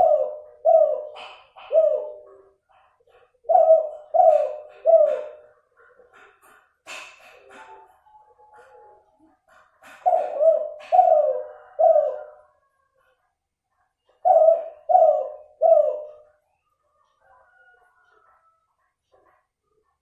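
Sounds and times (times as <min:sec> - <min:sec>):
dove cooing: 0:00.0 - 0:13.2, 0:14.0 - 0:19.3.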